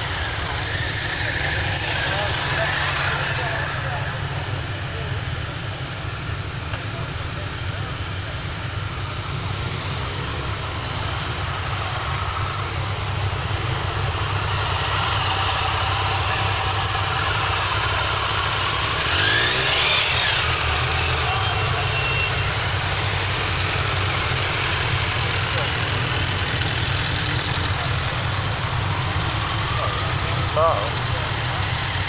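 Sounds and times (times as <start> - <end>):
motorcycle engine revving: 0.0 - 32.0
motorcycle engines idling: 0.0 - 32.0.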